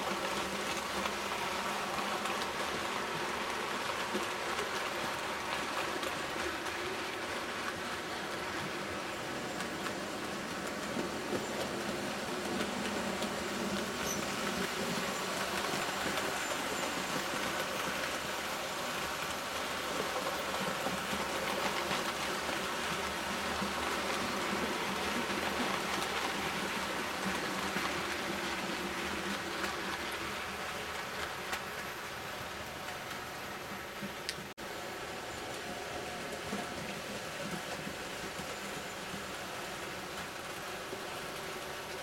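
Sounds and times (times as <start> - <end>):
model train wheels rumbling: 0.0 - 42.0.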